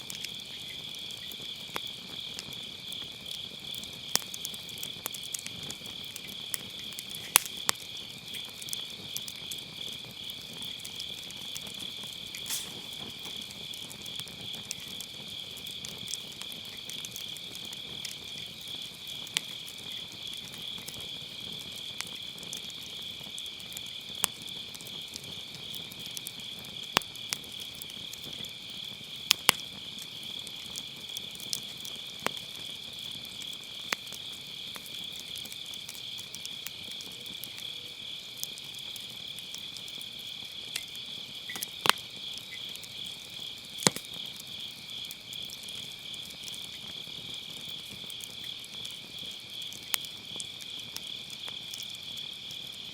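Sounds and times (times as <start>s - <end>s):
insects chirring: 0.0s - 52.9s
wood fire crackling and popping: 0.0s - 52.9s.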